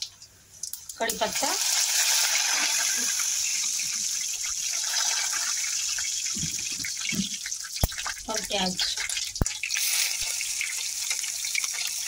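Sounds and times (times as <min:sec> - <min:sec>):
leaves sizzling in hot oil: 0:00.0 - 0:12.0.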